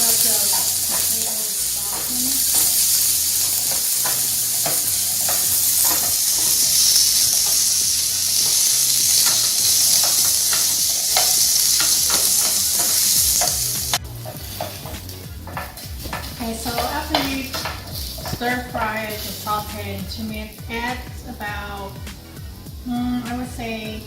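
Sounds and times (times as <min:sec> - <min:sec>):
utensil scraping a pan: 0:00.0 - 0:21.0
potatoes sizzling in oil: 0:00.0 - 0:24.0.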